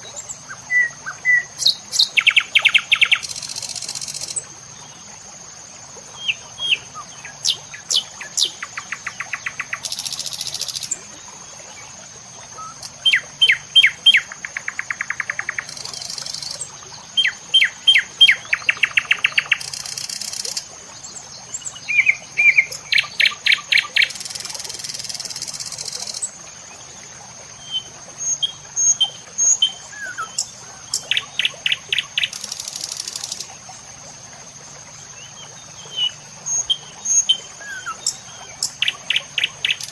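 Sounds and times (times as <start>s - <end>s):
songbird singing: 0.0s - 5.4s, 6.0s - 39.9s.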